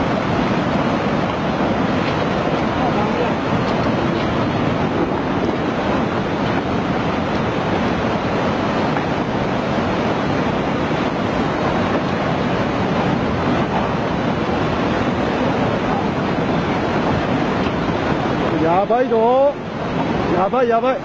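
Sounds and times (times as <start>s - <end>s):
turbulent floodwater rushing: 0.0s - 21.0s.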